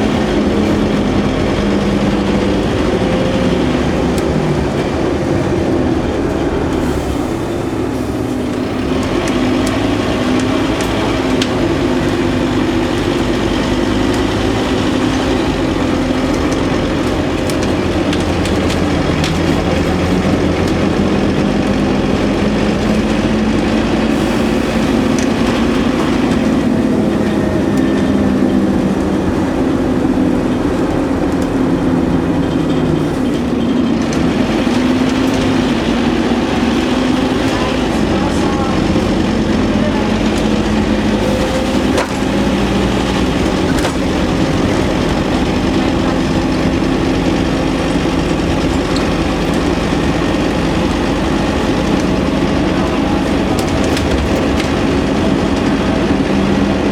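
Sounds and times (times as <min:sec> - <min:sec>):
bus diesel engine droning: 0:00.0 - 0:56.9.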